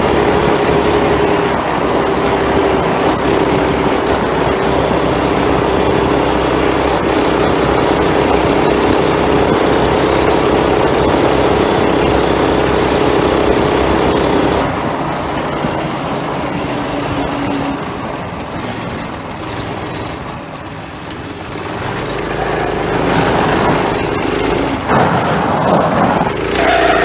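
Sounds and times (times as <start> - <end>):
go-kart engine running: 0.0 - 27.0.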